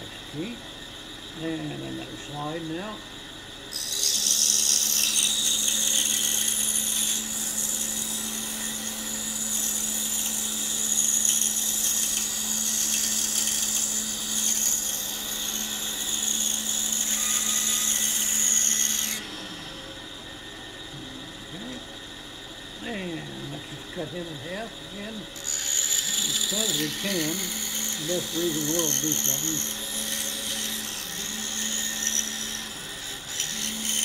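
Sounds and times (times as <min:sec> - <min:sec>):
bandsaw cutting wood: 0:03.7 - 0:19.8, 0:22.8 - 0:34.0.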